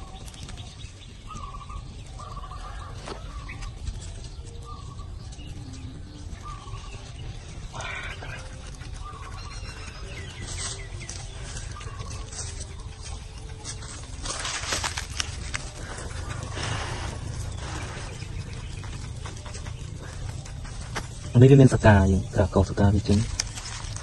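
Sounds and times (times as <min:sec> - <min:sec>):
birds calling: 0:00.0 - 0:24.0
low rumble: 0:00.0 - 0:24.0.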